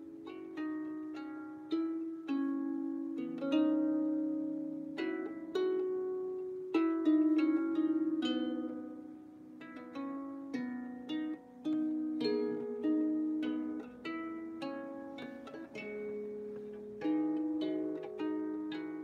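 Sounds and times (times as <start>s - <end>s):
out of tune harp plucked: 0.0s - 19.0s.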